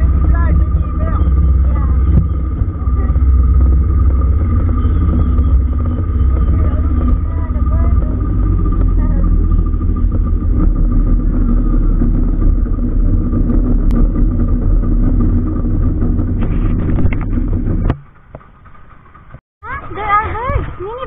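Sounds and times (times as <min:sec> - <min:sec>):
speedboat engine running: 0:00.0 - 0:21.0.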